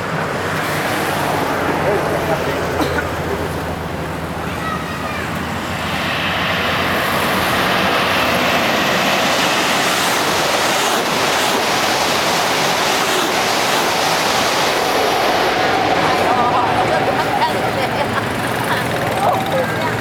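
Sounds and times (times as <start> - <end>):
high-speed train passing: 0.0 - 20.0.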